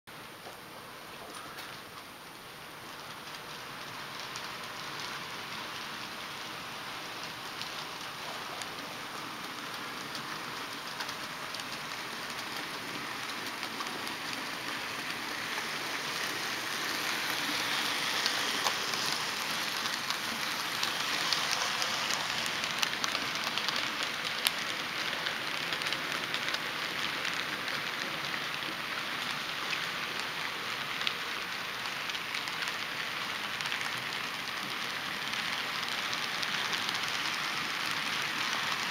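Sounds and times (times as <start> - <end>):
model train rattling on track: 2.8 - 38.9.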